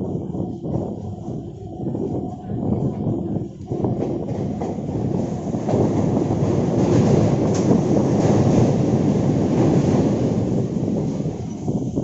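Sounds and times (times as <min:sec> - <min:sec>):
train wheels rumbling on track: 0:00.1 - 0:12.0.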